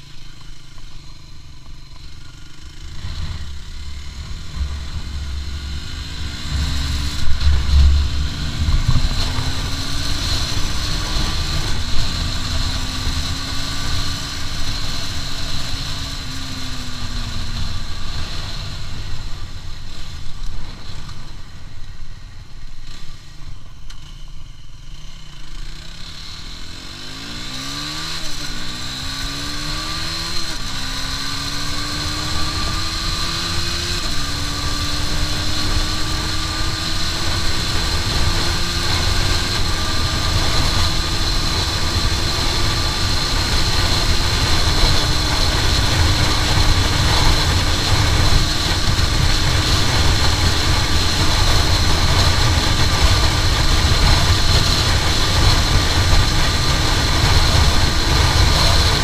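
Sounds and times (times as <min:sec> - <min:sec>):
motorcycle engine accelerating: 0:00.0 - 0:59.0
wind noise on microphone: 0:03.0 - 0:21.6, 0:29.3 - 0:59.0.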